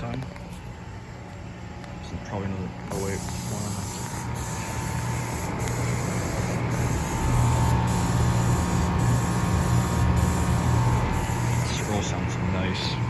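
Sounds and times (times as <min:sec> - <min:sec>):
compressor hum: 0:00.0 - 0:13.0
condenser fan air rush: 0:00.0 - 0:13.0
faint steady whine: 0:00.0 - 0:13.0.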